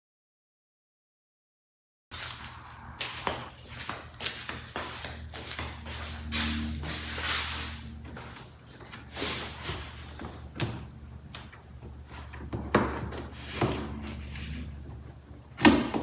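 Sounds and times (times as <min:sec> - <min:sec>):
steady low hum: 0:02.1 - 0:15.7.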